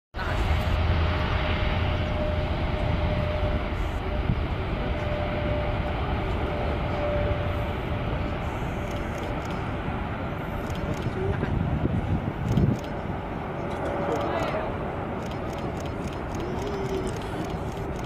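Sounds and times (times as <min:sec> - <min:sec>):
airplane engine whine and rumble: 0:00.2 - 0:18.0
strong wind: 0:00.2 - 0:18.0.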